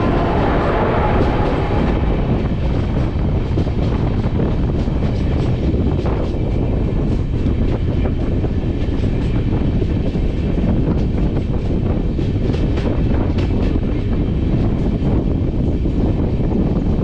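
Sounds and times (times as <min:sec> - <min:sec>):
train wheels clacking: 0:00.0 - 0:16.7
train rumbling on rails: 0:00.0 - 0:17.0
wind buffeting microphone: 0:00.0 - 0:17.0.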